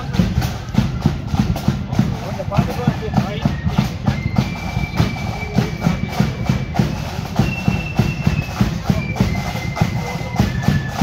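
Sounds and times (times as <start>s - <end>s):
band playing long high notes: 0.0s - 11.0s
crowd murmur: 0.0s - 11.0s
marching footsteps on road: 0.0s - 11.0s.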